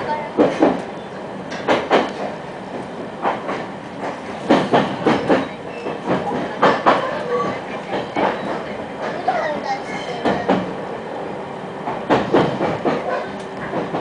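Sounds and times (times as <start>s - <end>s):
train running rumble: 0.0s - 14.0s
train wheels clattering over rail joints: 0.3s - 10.8s, 11.8s - 14.0s.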